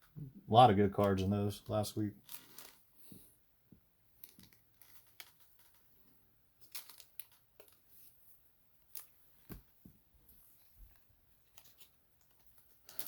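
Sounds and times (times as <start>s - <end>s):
plastic sleeves rustling: 0.9s - 3.2s, 4.2s - 13.0s.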